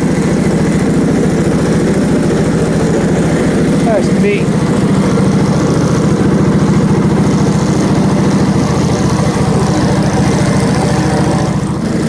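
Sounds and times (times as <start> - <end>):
bandsaw mill engine running: 0.0 - 12.0.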